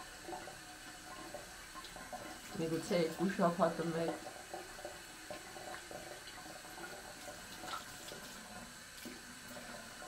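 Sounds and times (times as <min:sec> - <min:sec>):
faucet running into sink: 0:00.0 - 0:10.0.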